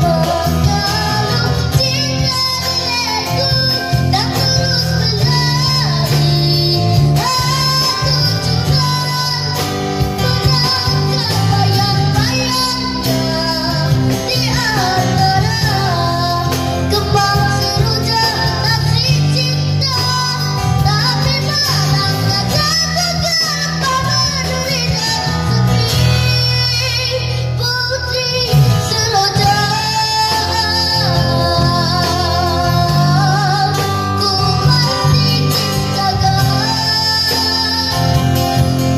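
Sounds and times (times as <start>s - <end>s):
acoustic guitar: 0.0s - 38.9s
boy singing into a microphone: 0.0s - 38.9s
drum kit: 0.0s - 38.9s
electric bass: 0.0s - 38.9s.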